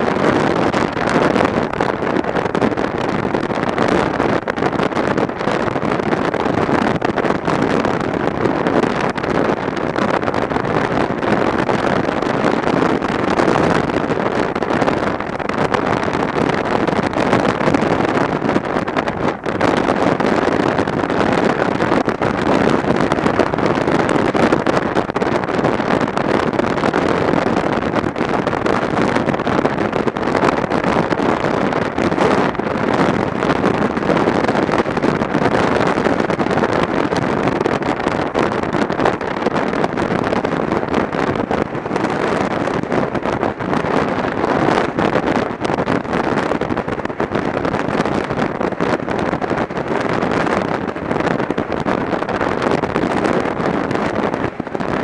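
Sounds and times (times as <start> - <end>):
road noise: 0.0 - 55.0
wind rushing over microphone: 0.0 - 55.0.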